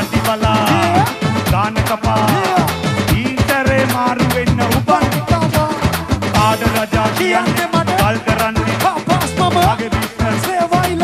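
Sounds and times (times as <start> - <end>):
band music with steady beat: 0.0 - 11.0
bass line: 0.0 - 11.0.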